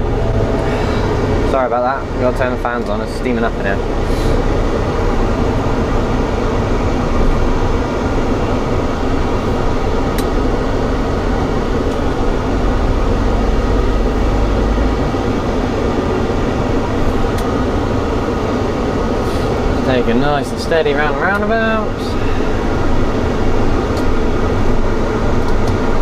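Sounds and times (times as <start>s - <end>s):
cab ventilation fans blowing: 0.0s - 26.0s
tractor engine and road noise: 0.0s - 26.0s.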